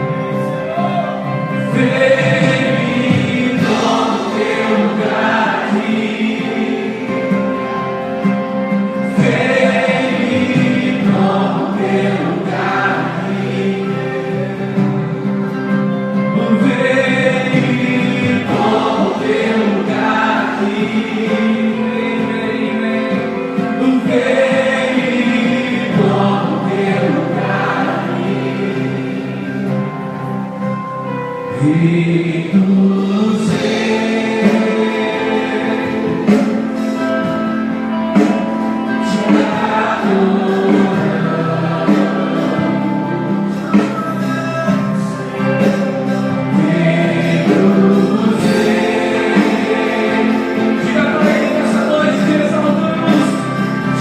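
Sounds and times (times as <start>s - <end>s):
choir singing worship song: 0.0s - 54.0s.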